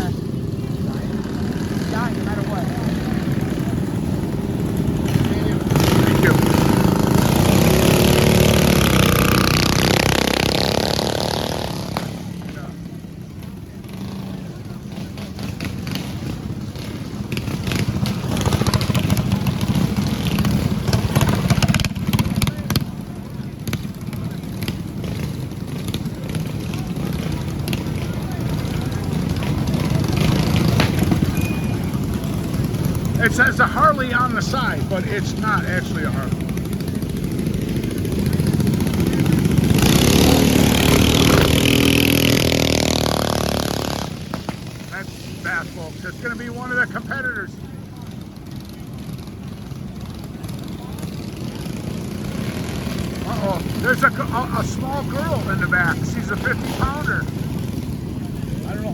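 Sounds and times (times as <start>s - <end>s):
mini bike engines racing: 0.0s - 58.9s.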